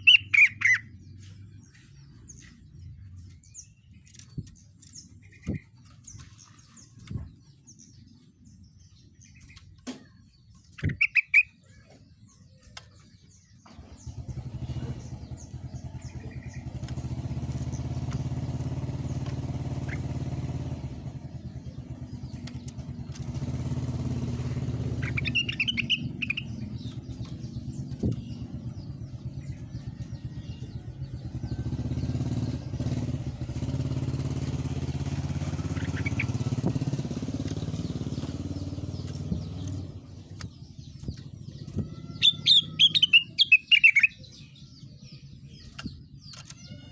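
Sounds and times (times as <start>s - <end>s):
bird chirps: 0.0s - 46.9s
engine running with low pulsing: 0.0s - 46.9s.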